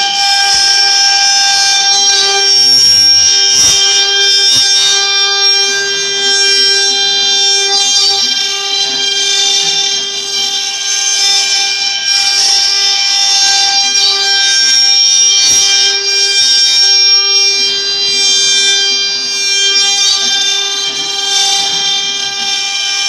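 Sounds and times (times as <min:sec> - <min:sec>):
router spindle whine: 0:00.0 - 0:23.0.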